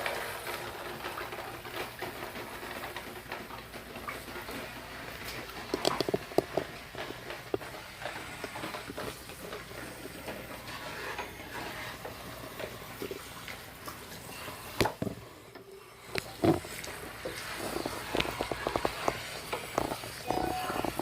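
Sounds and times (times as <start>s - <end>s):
objects clicking and knocking: 1.0s - 13.3s, 16.0s - 21.0s.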